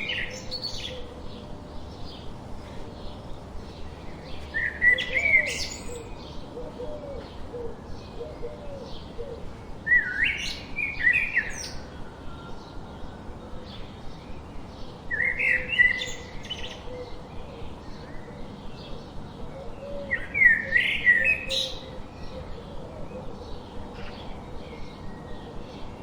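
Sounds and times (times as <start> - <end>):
bird song phrase: 0.0 - 6.6, 9.8 - 26.0.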